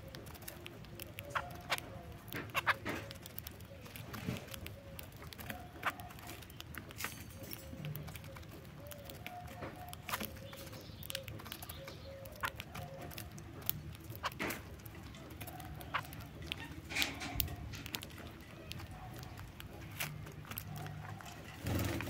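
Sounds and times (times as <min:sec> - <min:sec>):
beaks clicking on seed: 0:00.0 - 0:22.0.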